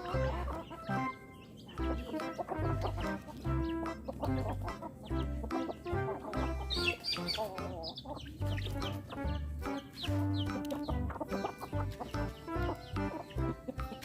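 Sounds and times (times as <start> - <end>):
chickens clucking: 0.0 - 14.0
music with deep bass line: 1.8 - 14.0.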